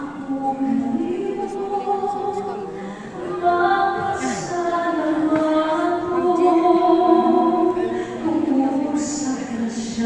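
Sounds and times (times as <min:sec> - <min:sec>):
crowd singing a hymn: 0:00.0 - 0:10.0.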